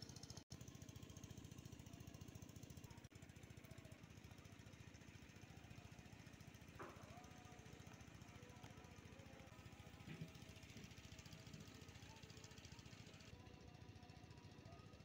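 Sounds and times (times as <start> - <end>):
small engine pulsing: 0.0 - 15.0.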